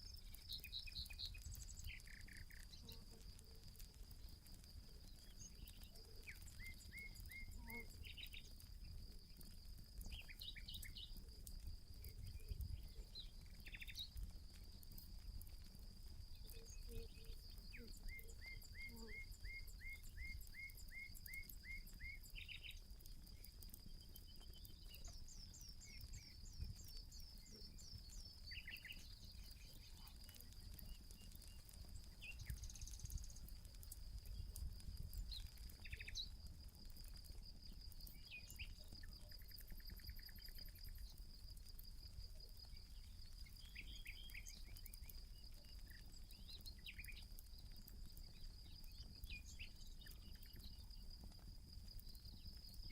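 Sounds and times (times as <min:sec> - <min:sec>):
campfire crackling: 0:00.0 - 0:52.9
insects droning: 0:00.0 - 0:52.9.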